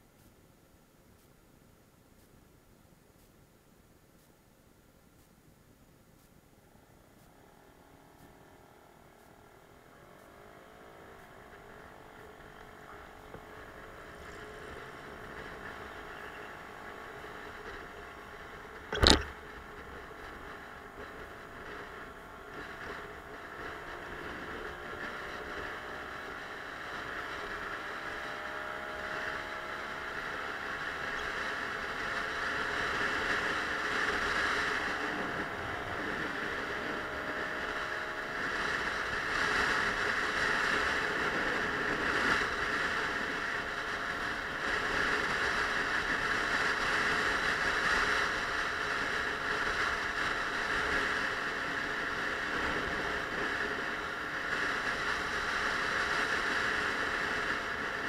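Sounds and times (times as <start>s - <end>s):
wind and road noise: 0.0s - 58.0s
faint scooter engine drone: 5.1s - 58.0s.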